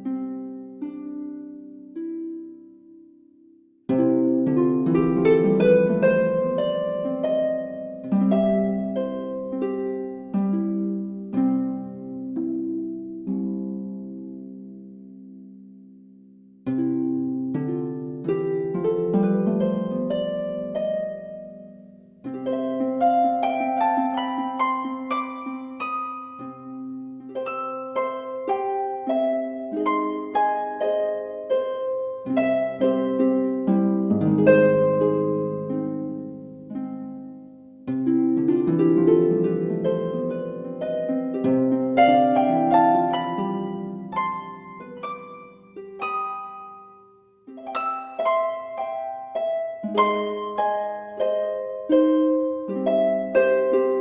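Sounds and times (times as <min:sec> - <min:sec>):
plucked harp-like music: 0:00.0 - 0:54.0.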